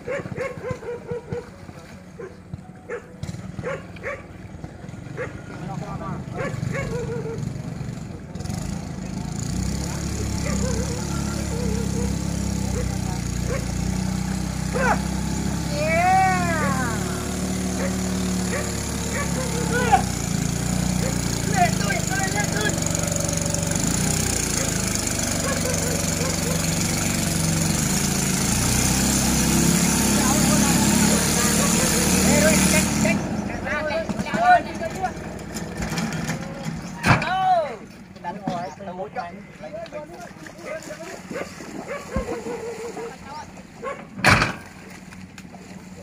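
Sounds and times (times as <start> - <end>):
engine running: 0.0 - 46.0.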